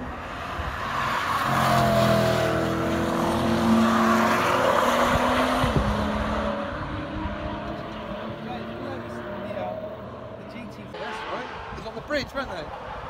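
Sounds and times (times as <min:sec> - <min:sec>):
sports car engines passing: 0:00.0 - 0:13.0.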